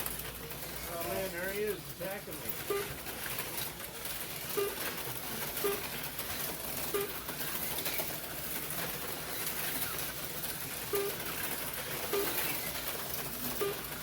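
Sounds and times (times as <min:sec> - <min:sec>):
slot cars whirring: 0:00.0 - 0:14.0.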